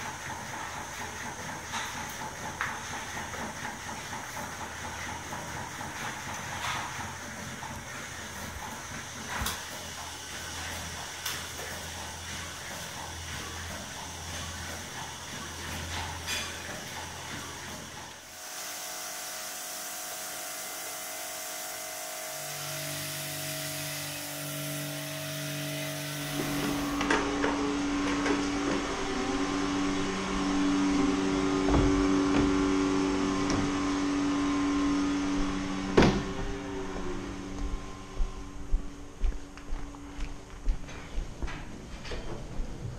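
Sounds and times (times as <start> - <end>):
milking machine vacuum hiss and hum: 0.0 - 40.5.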